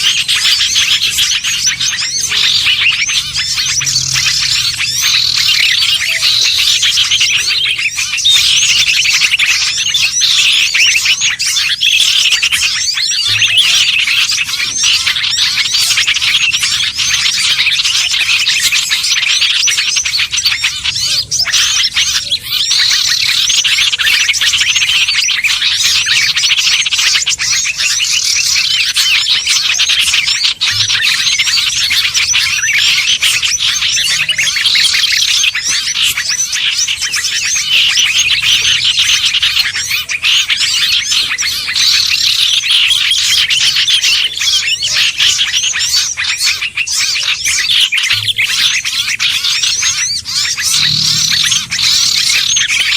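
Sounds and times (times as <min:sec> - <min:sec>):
songbirds chirping and twittering: 0:00.0 - 0:52.9.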